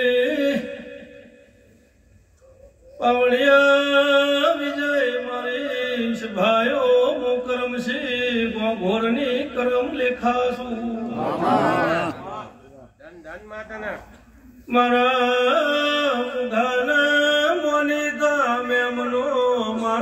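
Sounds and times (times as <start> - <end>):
man chanting into a microphone: 0.0 - 1.4, 2.8 - 12.6, 14.6 - 20.0.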